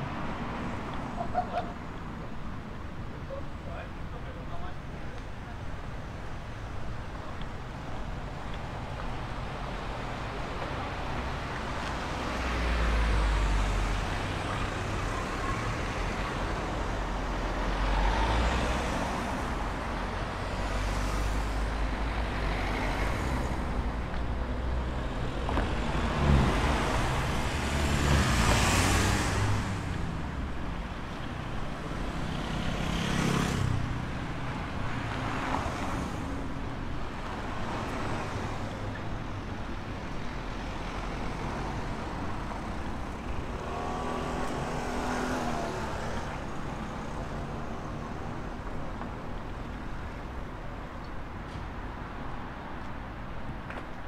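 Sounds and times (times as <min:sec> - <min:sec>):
low rumble of traffic: 0:00.0 - 0:54.0
vehicles passing with tyre noise: 0:00.0 - 0:54.0.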